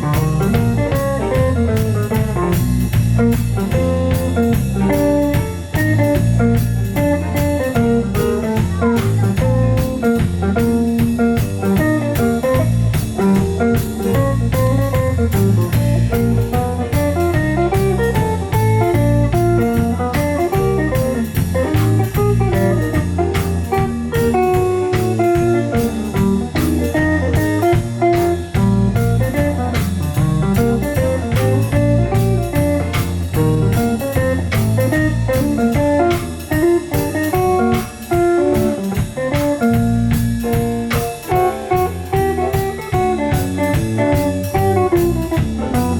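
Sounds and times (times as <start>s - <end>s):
bass guitar: 0.0s - 45.9s
drum kit beat: 0.0s - 45.9s
guitar melody: 0.0s - 45.9s.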